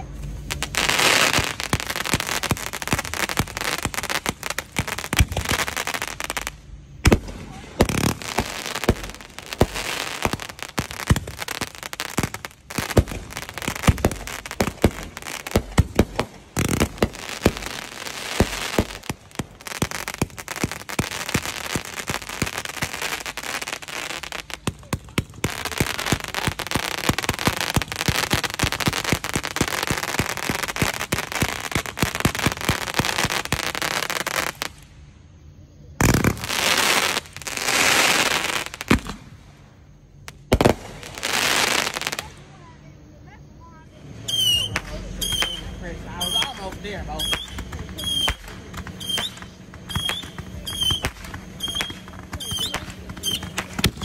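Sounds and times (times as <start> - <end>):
fireworks bangs: 0.0 - 35.0, 35.9 - 42.8, 44.0 - 54.0
fireworks crackling: 0.0 - 54.0
fireworks hiss: 0.0 - 54.0.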